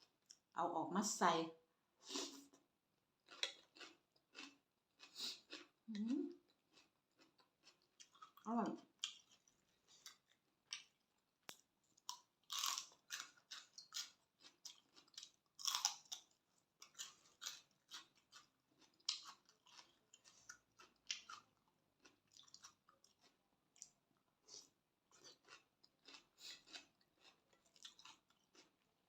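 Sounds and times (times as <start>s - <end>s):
person chewing food: 2.1s - 29.0s.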